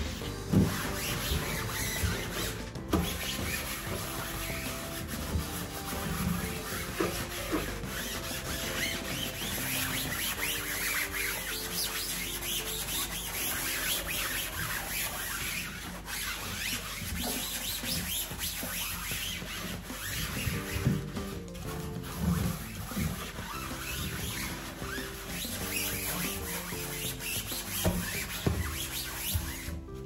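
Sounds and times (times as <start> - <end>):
quiet background music: 0.0 - 30.0
sponge scrubbing a steel sink: 0.0 - 30.0.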